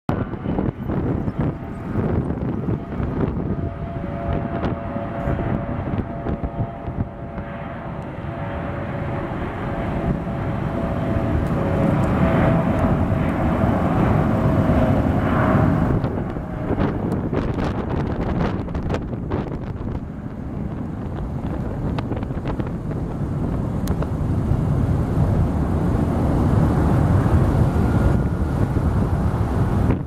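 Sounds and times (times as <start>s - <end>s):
jet engine rumble with whine: 0.1s - 30.0s.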